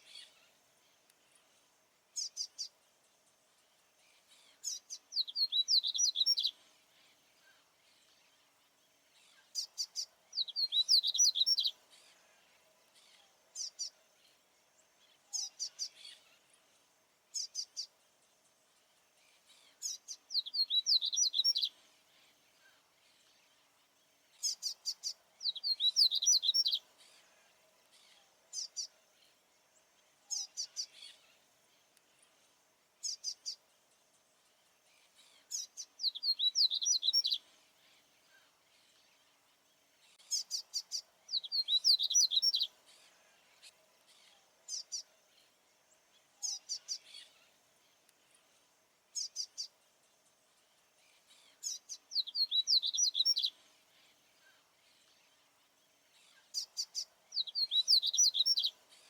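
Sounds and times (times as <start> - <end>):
faint steady hum: 0.0 - 59.0
songbird singing high phrases: 0.0 - 59.0.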